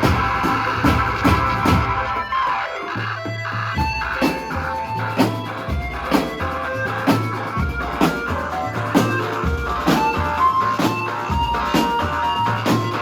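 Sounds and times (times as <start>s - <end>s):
music with strong beat: 0.0s - 13.0s.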